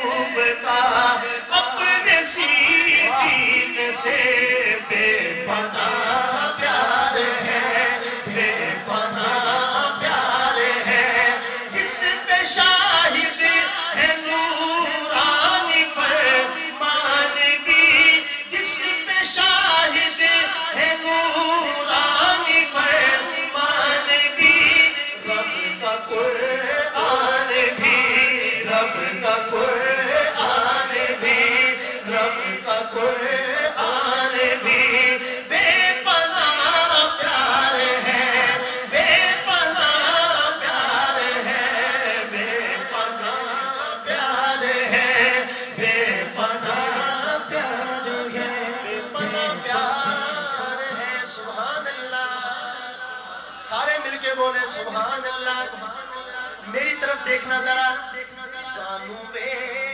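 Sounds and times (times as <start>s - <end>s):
man singing lead: 0.0s - 59.9s.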